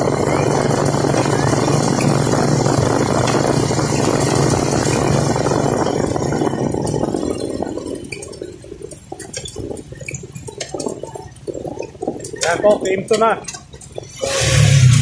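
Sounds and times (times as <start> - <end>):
motorcycle engine running: 0.0 - 15.0
wind rushing over microphone: 0.0 - 15.0
clicks and rattles: 0.2 - 14.2.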